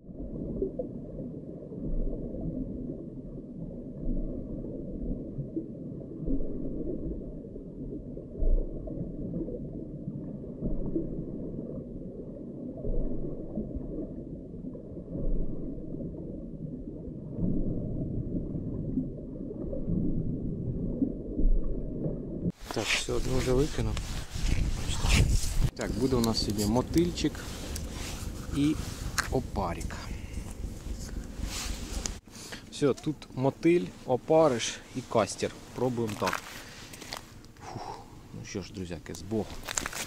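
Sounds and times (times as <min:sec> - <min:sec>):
underwater rumbling and sloshing: 0:00.0 - 0:32.4.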